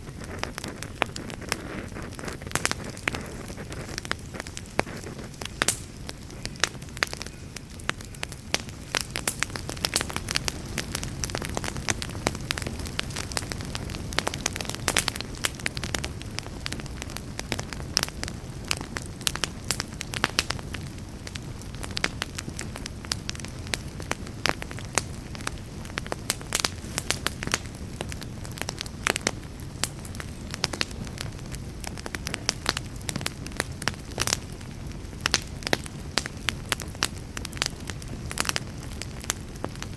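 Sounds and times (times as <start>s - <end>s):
wood campfire crackling: 0.0s - 39.9s.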